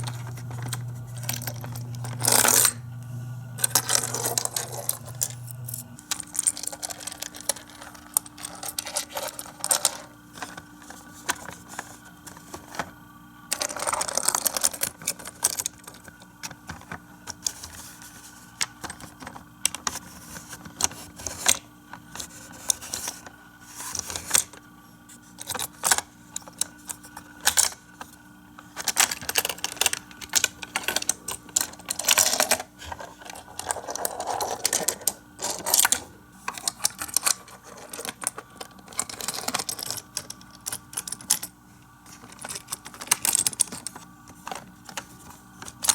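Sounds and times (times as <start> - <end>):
plastic toys clicking and rattling: 0.0 - 2.8, 3.6 - 45.9.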